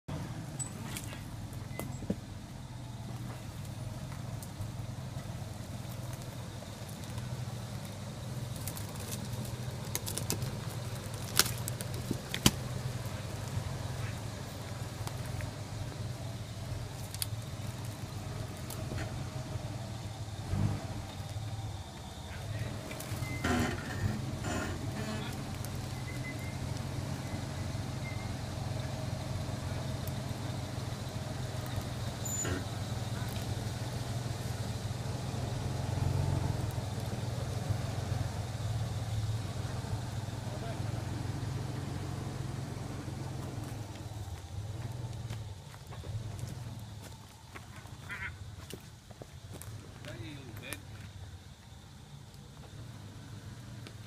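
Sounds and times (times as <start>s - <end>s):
car engine running at low speed: 0.0s - 54.0s.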